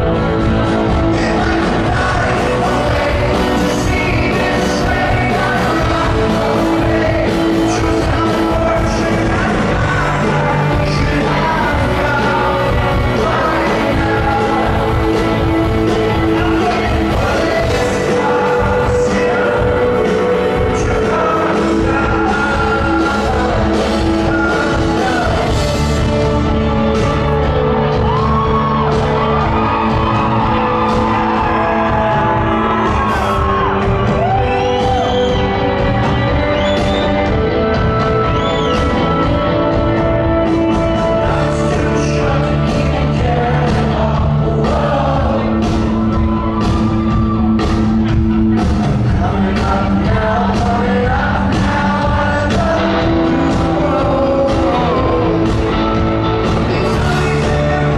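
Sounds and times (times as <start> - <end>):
lead vocalist singing: 0.0 - 57.9
rock band playing live: 0.0 - 57.9.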